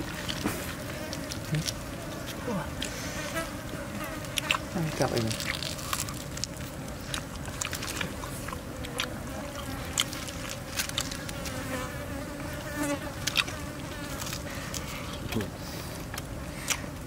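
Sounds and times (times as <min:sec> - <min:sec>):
insect buzzing: 0:00.0 - 0:15.9.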